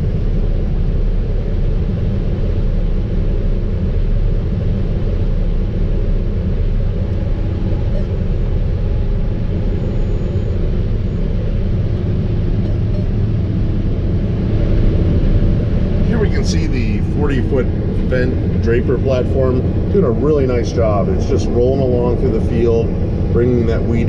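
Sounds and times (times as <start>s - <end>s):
combine harvester engine rumbling: 0.0s - 24.0s.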